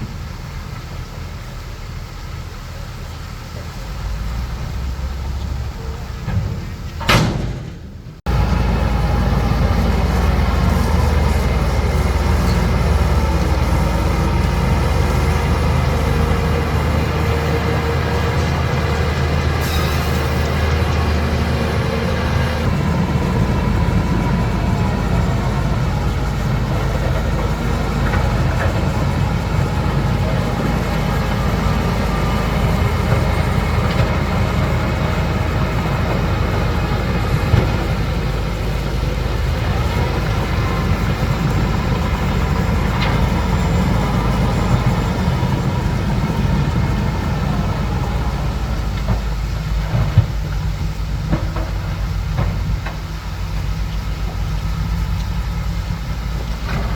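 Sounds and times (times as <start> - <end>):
diesel engine drone: 0.0 - 56.9
rattling track clatter: 5.2 - 56.9.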